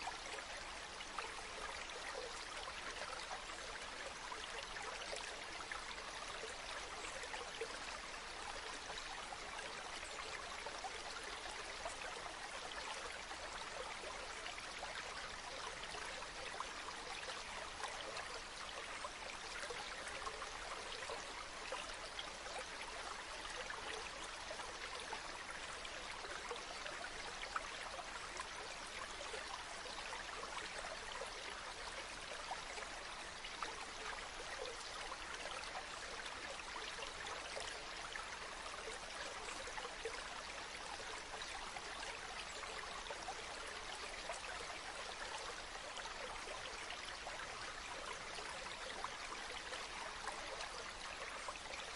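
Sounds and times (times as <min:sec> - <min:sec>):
stream flowing: 0:00.0 - 0:51.9.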